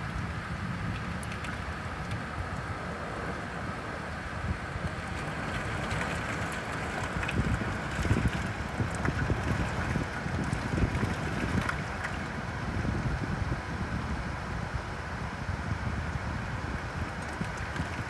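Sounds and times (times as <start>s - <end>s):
steady rain hiss: 0.0s - 18.0s
wind buffeting microphone: 0.0s - 18.0s.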